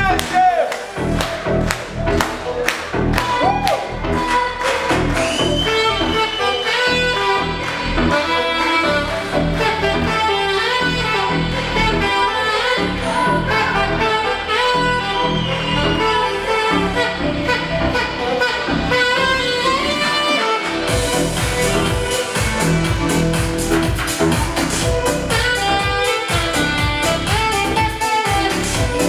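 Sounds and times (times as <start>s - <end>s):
rhythmic accompaniment: 0.0s - 29.0s
saxophone jazz melody: 0.0s - 29.0s.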